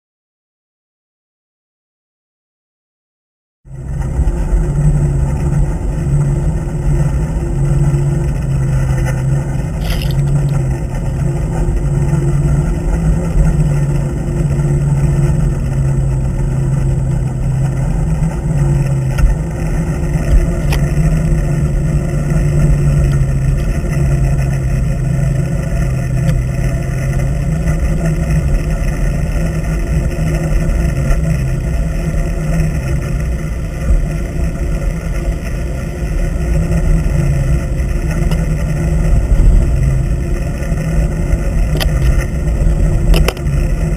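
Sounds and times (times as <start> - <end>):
boat engine hum underwater: 3.7 - 43.9.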